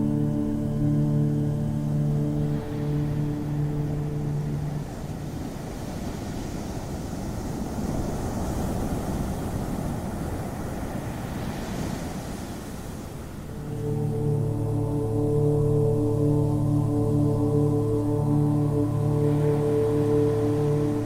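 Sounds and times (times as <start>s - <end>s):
ocean surf washing on beach: 0.0s - 21.0s.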